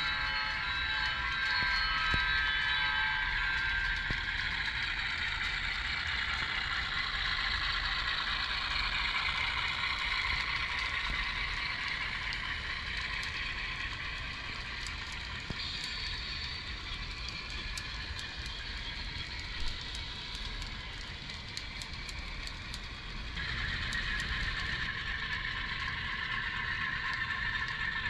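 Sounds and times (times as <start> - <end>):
model train wheels clattering: 0.2 - 28.0.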